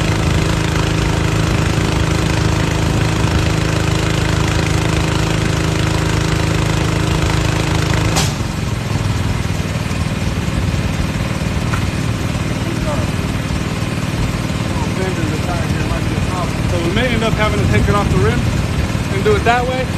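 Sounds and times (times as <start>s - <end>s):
air compressor engine running: 0.0s - 19.9s.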